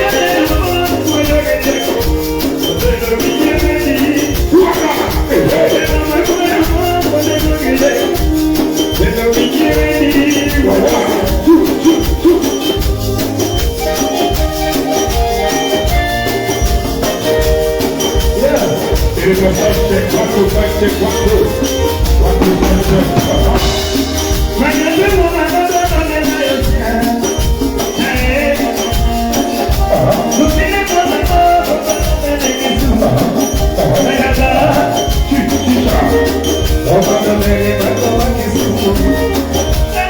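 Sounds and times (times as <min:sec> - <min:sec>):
high rattling percussion: 0:00.0 - 0:40.0
live band playing loud music: 0:00.0 - 0:40.0
steady bass beat: 0:00.0 - 0:40.0.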